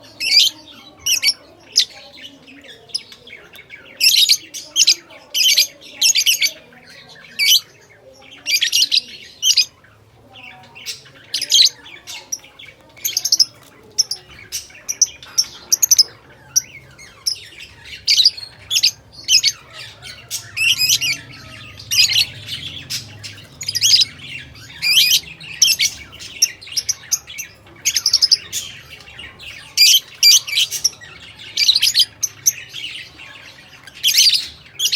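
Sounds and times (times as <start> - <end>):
lovebirds chirping and squawking: 0.0 - 34.9.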